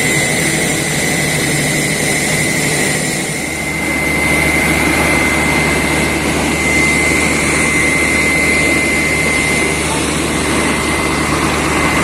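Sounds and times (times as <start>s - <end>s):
air compressor running: 0.0s - 12.0s
drilling rig running: 0.0s - 12.0s.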